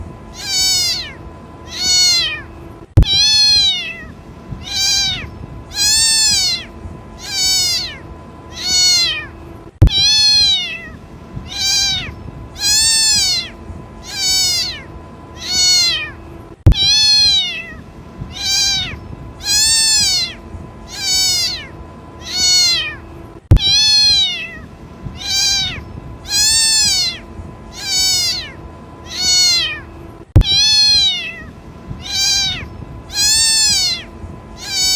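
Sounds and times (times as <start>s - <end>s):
kitten meowing: 0.3s - 34.9s.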